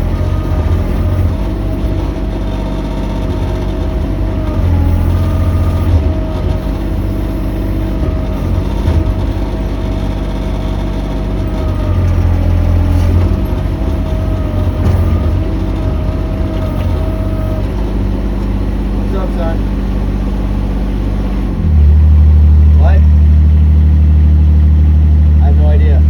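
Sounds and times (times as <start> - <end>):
excavator diesel engine running: 0.0 - 26.0
hydraulic whine: 0.0 - 26.0.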